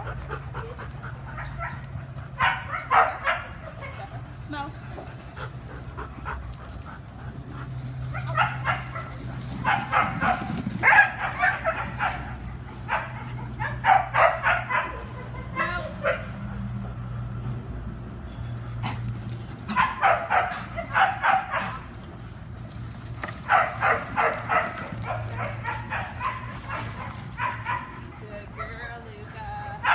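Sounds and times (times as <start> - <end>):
dogs barking: 0.0 - 4.3, 5.4 - 17.1, 18.8 - 22.0, 23.2 - 28.8.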